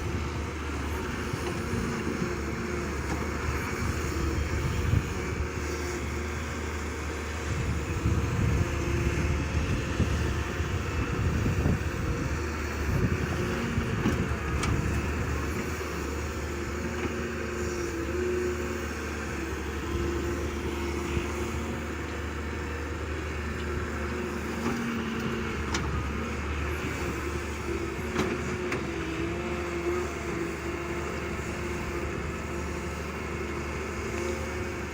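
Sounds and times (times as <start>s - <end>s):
diesel engine running under load: 0.0s - 34.9s.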